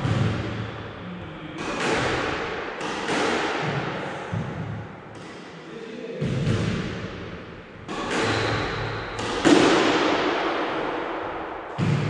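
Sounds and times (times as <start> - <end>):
squash ball hitting racket and walls: 0.0 - 12.0.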